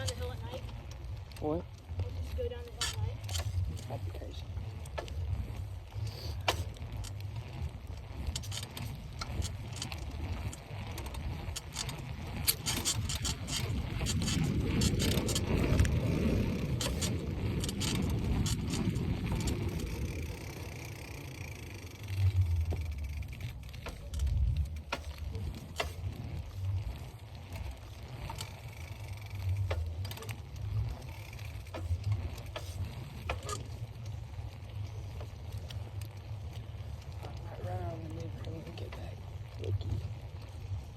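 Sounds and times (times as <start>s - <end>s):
bicycle rattling and clicking: 0.0s - 40.9s
rolling tyre noise: 0.0s - 40.9s
wind rumble on microphone: 0.0s - 40.9s.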